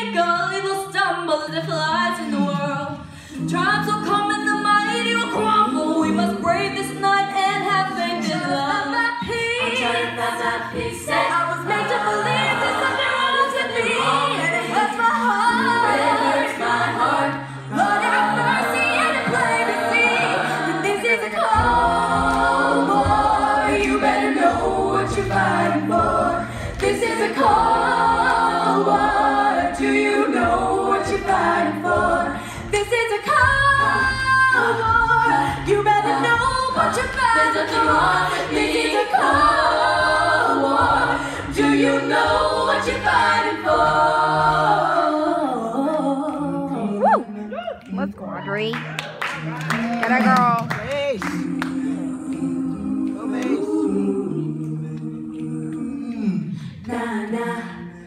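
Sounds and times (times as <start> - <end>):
a cappella choir singing: 0.0 - 48.0, 50.6 - 58.0.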